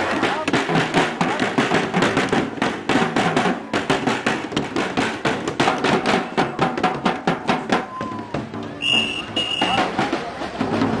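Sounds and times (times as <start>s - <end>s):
plastic cans beaten as drums: 0.0s - 11.0s.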